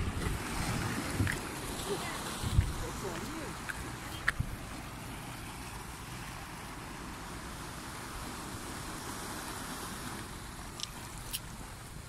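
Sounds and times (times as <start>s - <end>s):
sea waves washing against boulders: 0.0s - 12.0s
wind rumbling on microphone: 0.0s - 12.0s.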